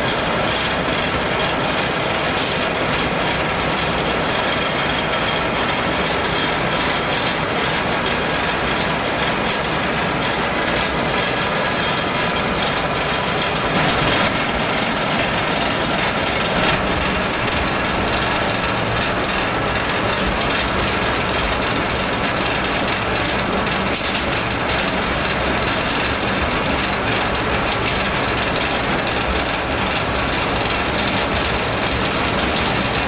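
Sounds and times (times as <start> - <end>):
industrial machinery din: 0.0 - 33.0.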